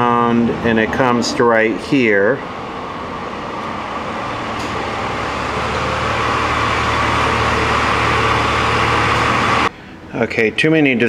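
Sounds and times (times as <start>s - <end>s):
loud mechanical drone: 0.0s - 9.7s
low hum: 0.0s - 9.9s.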